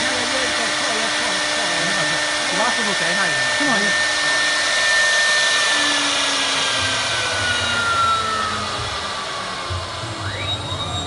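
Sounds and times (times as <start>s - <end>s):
router cutting wood: 0.0s - 11.0s
router spindle motor whine: 0.0s - 11.0s.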